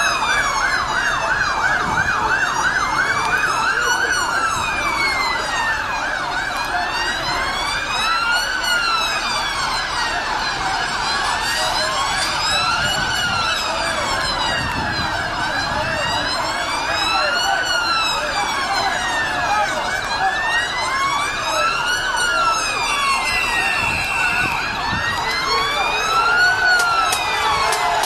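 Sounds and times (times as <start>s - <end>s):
police sirens wailing: 0.0s - 28.0s
siren yelp: 0.0s - 28.0s.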